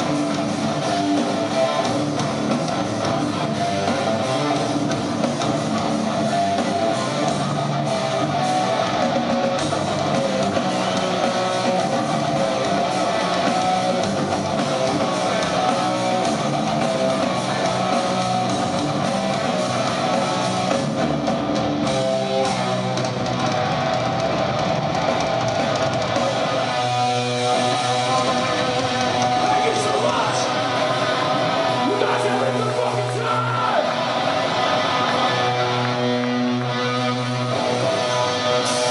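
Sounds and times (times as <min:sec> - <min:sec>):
distorted electric guitars: 0:00.0 - 0:38.9.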